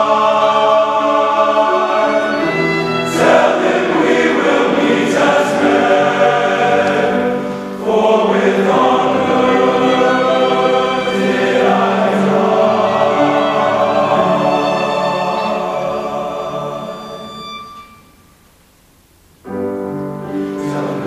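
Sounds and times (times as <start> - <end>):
men's choir singing: 0.0 - 17.7, 20.3 - 21.0.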